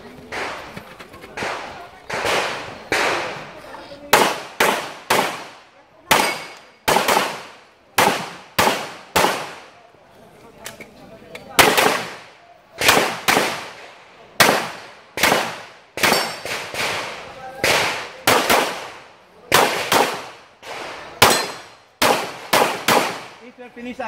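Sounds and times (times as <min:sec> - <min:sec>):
pistol shots with echo: 0:01.4 - 0:09.7, 0:11.6 - 0:23.4.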